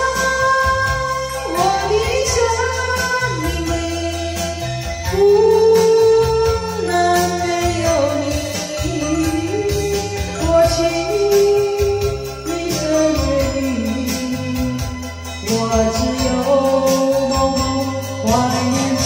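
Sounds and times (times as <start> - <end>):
karaoke backing track: 0.0 - 19.0
person singing slow ballad: 0.0 - 19.0.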